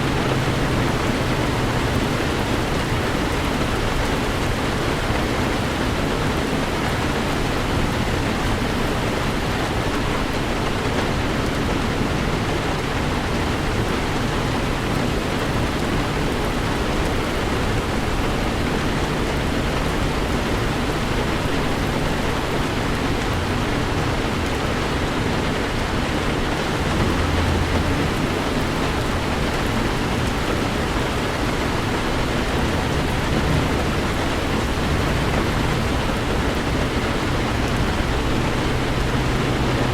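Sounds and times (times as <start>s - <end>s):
heavy rain on a vehicle: 0.0s - 39.9s
low road rumble: 0.0s - 39.9s.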